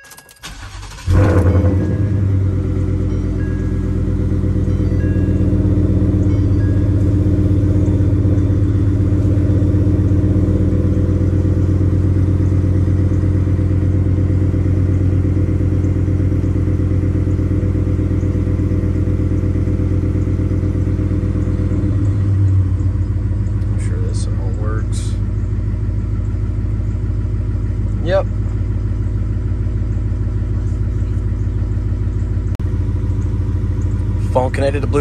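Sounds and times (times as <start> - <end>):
engine idling through exhaust: 0.4 - 35.0.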